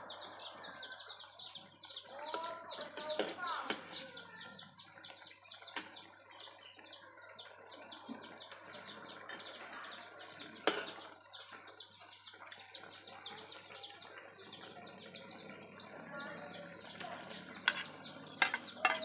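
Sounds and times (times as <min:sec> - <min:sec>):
high-pitched bird chirping: 0:00.0 - 0:19.0
wok simmering sizzle: 0:00.0 - 0:19.0.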